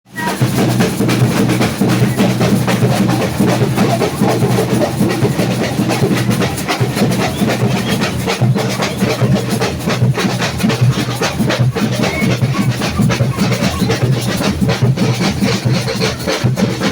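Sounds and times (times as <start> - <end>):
quick percussion strokes: 0.1 - 16.9
deep bass drums: 0.4 - 16.9.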